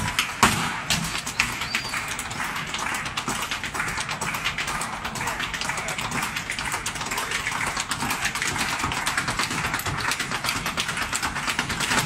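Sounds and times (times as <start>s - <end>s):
step-dance shoes on wooden stage: 0.0s - 12.0s.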